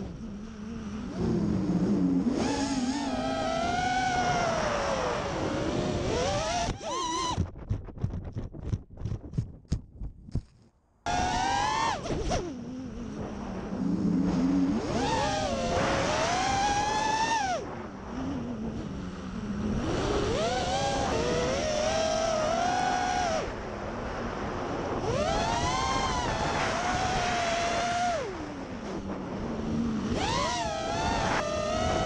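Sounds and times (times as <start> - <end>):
drone motors whining: 0.0 - 7.5, 11.1 - 23.5, 25.0 - 32.0.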